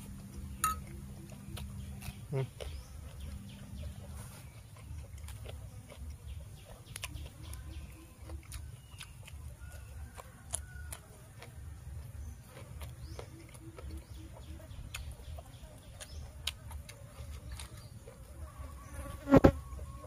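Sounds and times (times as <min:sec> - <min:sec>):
raw vegetables snapping and crunching: 0:00.0 - 0:19.9.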